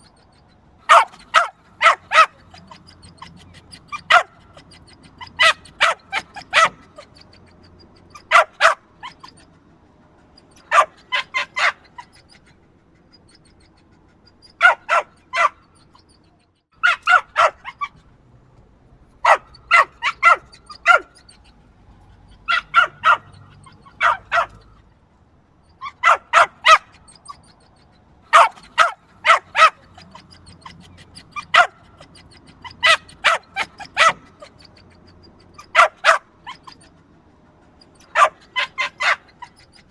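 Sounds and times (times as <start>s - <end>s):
small dog yapping: 0.0s - 9.6s, 10.2s - 16.2s, 16.8s - 18.1s, 19.2s - 24.9s, 25.7s - 37.0s, 37.6s - 39.9s.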